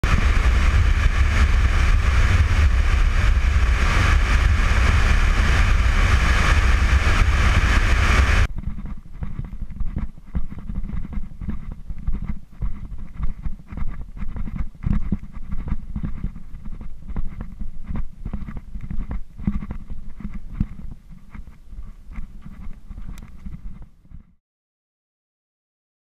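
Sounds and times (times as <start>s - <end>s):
wind buffeting microphone: 0.0s - 23.9s
wind and road noise: 0.0s - 24.3s.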